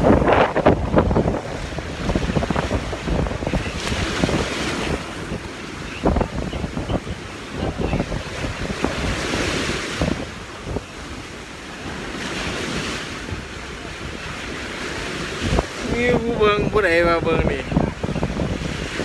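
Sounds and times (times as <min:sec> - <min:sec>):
sea surf washing: 0:00.0 - 0:19.0
wind buffeting microphone: 0:00.0 - 0:19.0.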